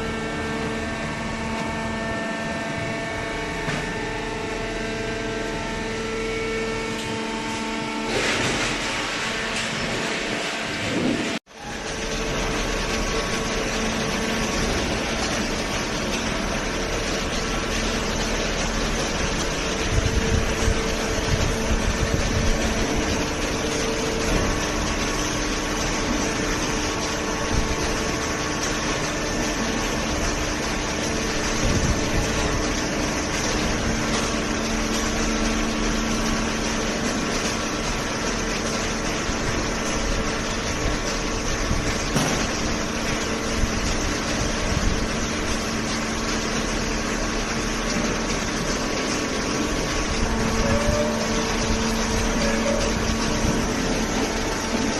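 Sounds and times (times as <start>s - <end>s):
baler motor humming: 0.0s - 54.9s.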